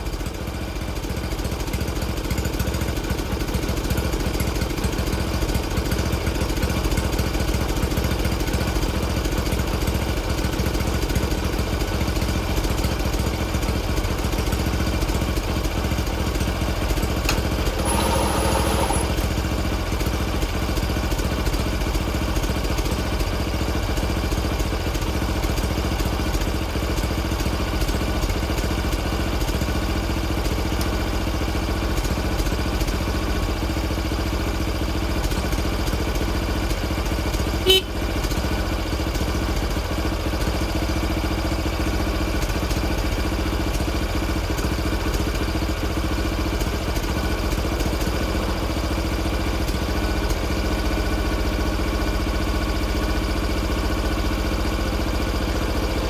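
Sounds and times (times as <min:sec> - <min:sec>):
excavator engine idling: 0:02.4 - 0:31.8, 0:36.2 - 0:56.0.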